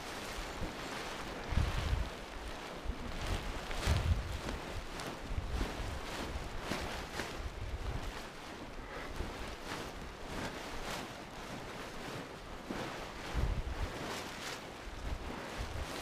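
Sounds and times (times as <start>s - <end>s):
soft rustles: 0.0s - 16.0s
wind buffeting microphone: 0.0s - 16.0s.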